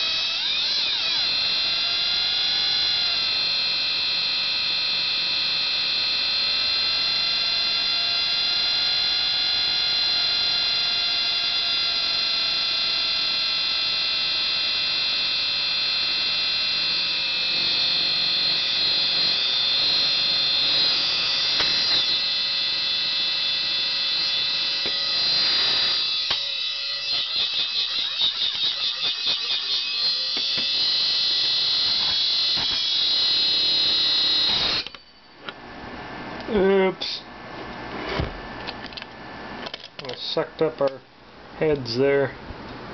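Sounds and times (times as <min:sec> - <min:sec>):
hard drive shrill whine: 0:00.0 - 0:37.3.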